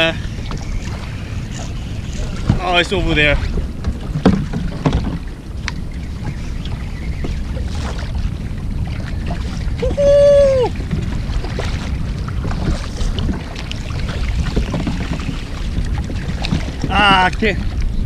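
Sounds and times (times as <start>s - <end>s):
water around a kayak: 0.0s - 18.0s
wind: 0.0s - 18.0s.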